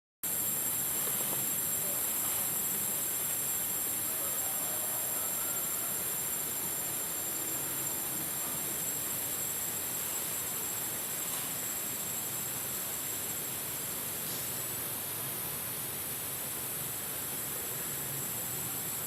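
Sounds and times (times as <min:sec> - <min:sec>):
insect chorus drone: 0:00.2 - 0:19.0.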